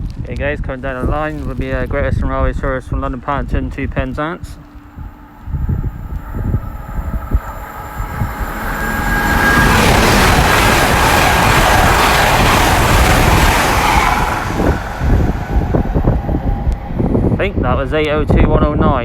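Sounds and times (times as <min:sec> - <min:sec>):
passenger train passing: 0:02.4 - 0:19.0.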